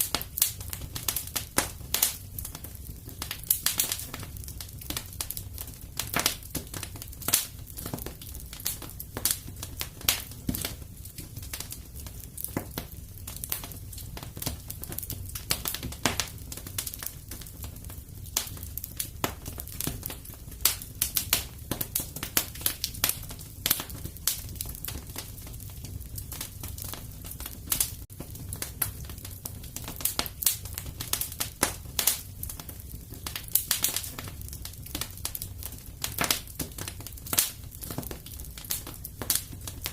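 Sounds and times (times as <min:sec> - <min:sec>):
fire pops and snaps: 0:00.0 - 0:39.9
low rumble of fire: 0:00.0 - 0:39.9.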